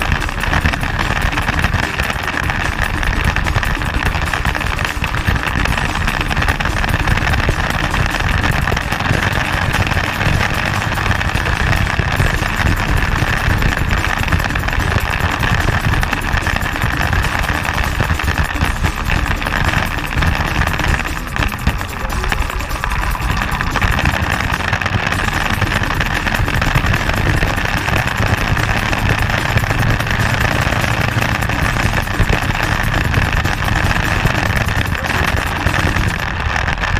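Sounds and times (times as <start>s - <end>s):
motorcycle engine running: 0.0s - 36.9s
wind noise on microphone: 0.0s - 36.9s.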